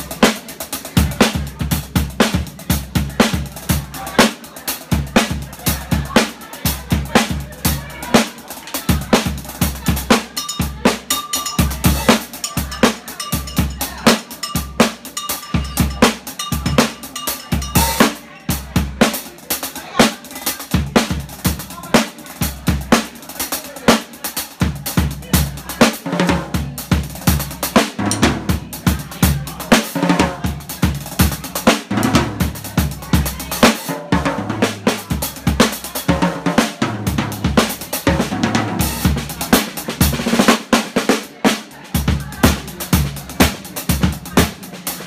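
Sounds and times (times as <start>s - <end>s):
drum kit playing: 0.0s - 45.0s.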